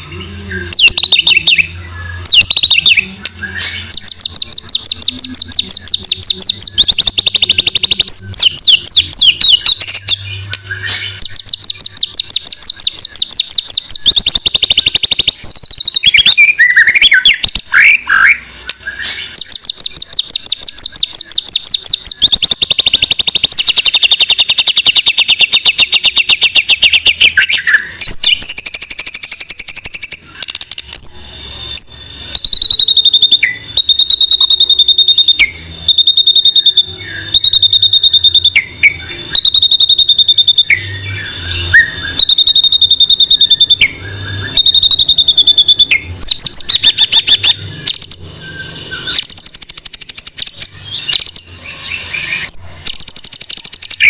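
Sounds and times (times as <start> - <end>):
songbird trilling and whistling: 0.0 - 54.0.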